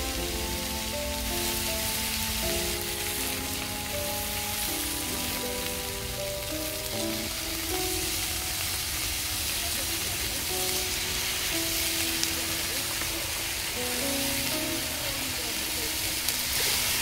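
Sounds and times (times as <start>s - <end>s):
meat sizzling in a pan: 0.0s - 17.0s
soft background music: 0.0s - 17.0s.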